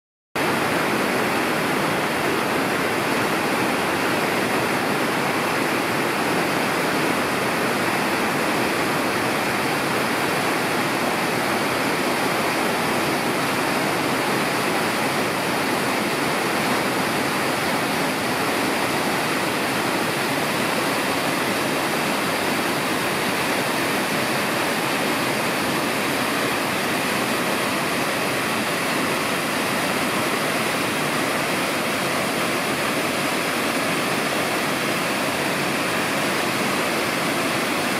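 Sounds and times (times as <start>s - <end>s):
waterfall rushing: 0.4s - 37.9s.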